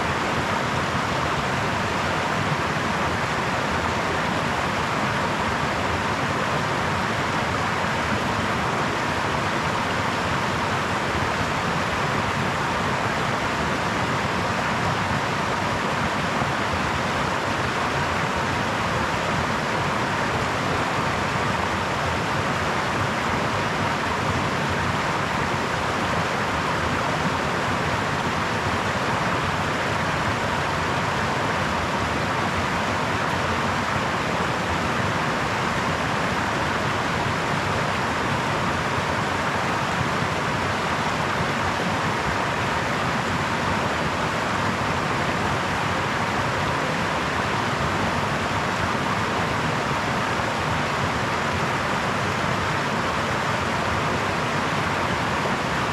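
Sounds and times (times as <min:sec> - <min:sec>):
brook flowing: 0:00.0 - 0:55.9.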